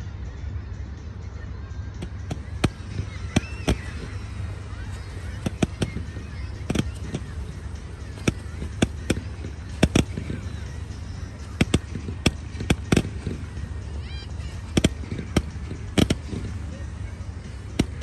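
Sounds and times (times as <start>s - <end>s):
fireworks bangs: 2.0s - 18.0s.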